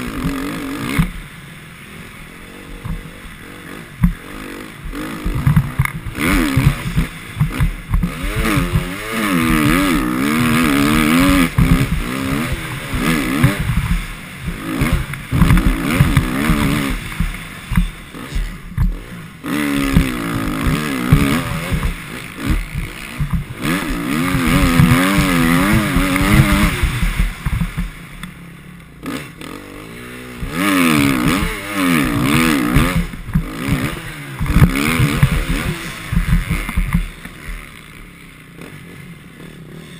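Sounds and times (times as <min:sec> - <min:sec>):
motocross bike engine: 0:00.0 - 0:39.9.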